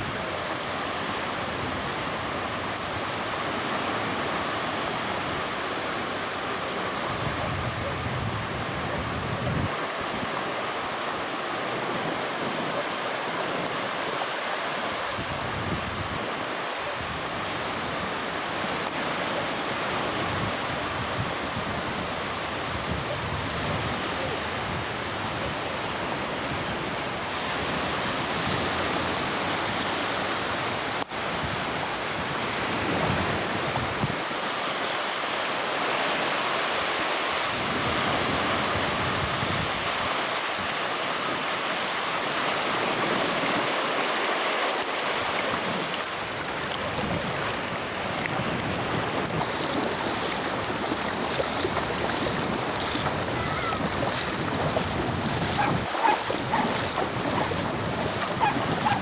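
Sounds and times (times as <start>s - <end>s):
sea surf rushing: 0.0s - 59.0s
wind gusting on microphone: 0.0s - 59.0s.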